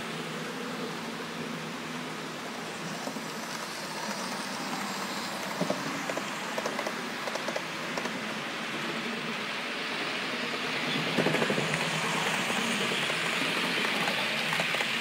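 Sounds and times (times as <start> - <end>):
model train wheels and motors: 1.5 - 15.0
quick clicks of train over track: 2.5 - 15.0.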